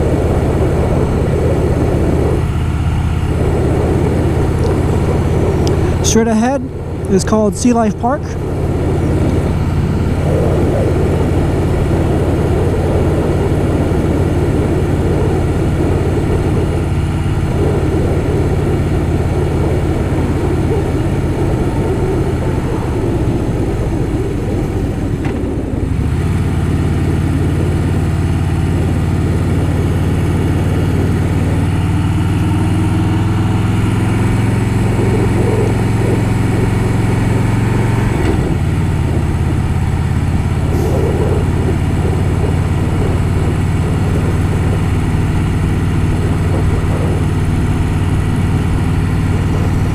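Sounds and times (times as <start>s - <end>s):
motorcycle engine running: 0.0s - 49.9s
wind noise on microphone: 0.0s - 49.9s.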